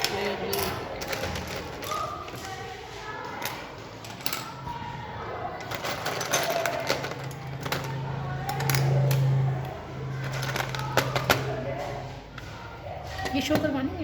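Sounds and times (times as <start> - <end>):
small plastic parts clattering: 0.0 - 13.8.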